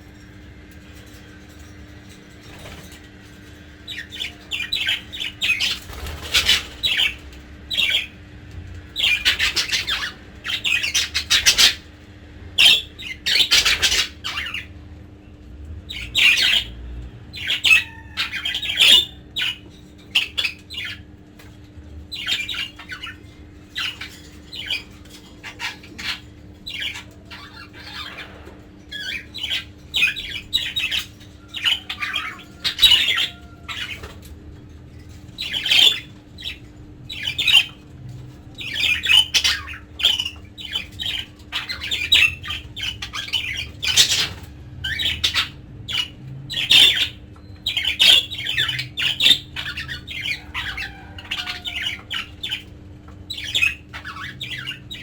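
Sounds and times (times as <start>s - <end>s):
budgerigars calling: 3.8s - 8.2s, 8.9s - 11.9s, 12.6s - 14.7s, 15.9s - 21.1s, 22.1s - 34.4s, 35.3s - 55.0s.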